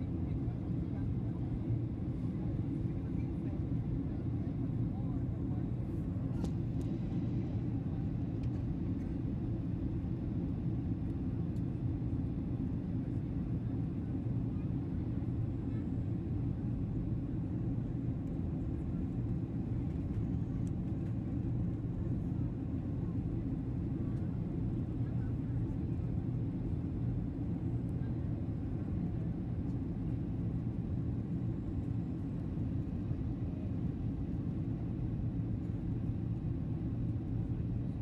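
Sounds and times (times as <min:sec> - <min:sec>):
airliner cabin rumble: 0:00.0 - 0:38.0.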